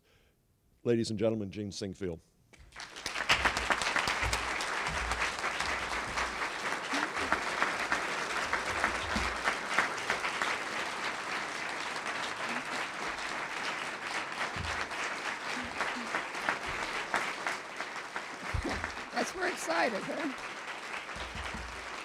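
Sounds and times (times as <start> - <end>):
audience applauding: 2.6 - 22.0.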